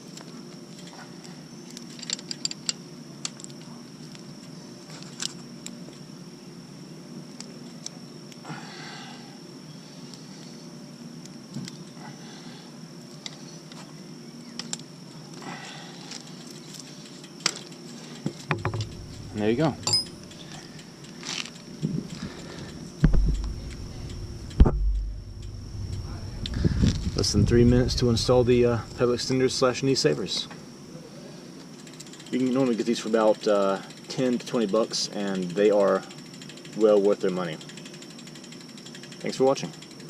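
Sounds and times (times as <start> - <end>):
background hum: 0.0 - 40.0.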